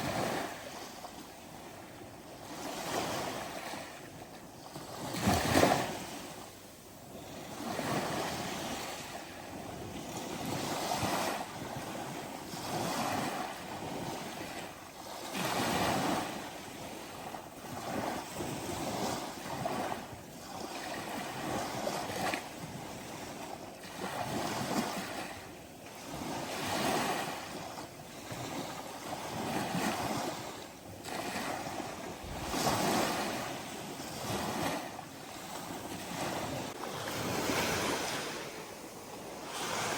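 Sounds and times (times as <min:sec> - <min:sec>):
ocean waves washing in: 0:00.0 - 0:04.2, 0:04.8 - 0:39.9.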